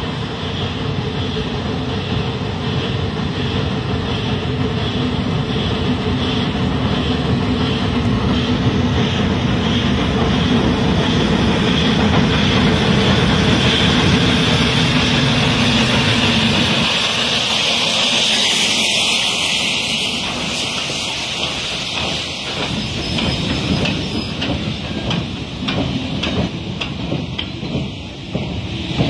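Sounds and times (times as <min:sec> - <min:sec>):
loud steam hiss: 0:00.0 - 0:29.0
steam locomotive exhaust beat: 0:00.0 - 0:29.0.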